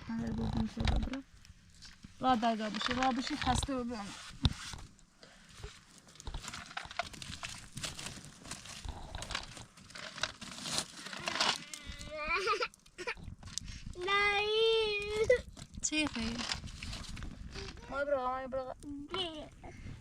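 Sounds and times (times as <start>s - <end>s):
rustling and crinkling handling: 0.0s - 20.0s.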